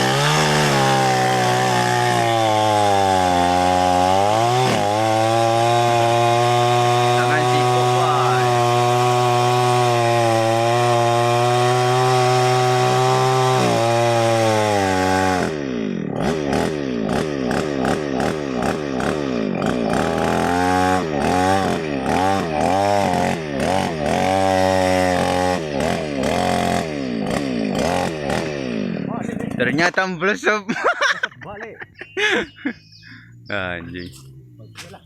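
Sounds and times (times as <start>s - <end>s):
chainsaw revving: 0.0s - 29.9s.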